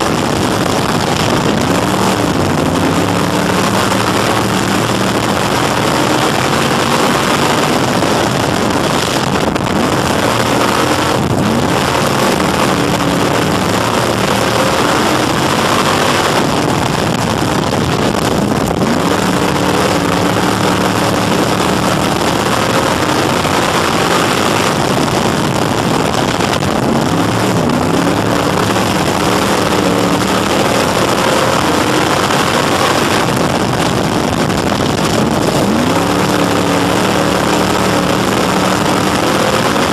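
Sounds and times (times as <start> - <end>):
race car engine racing: 0.0 - 39.9.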